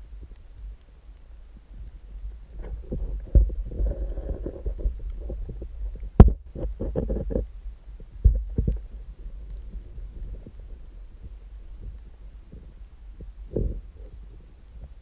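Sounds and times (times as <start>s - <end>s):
deep underwater rumble: 0.0s - 15.0s.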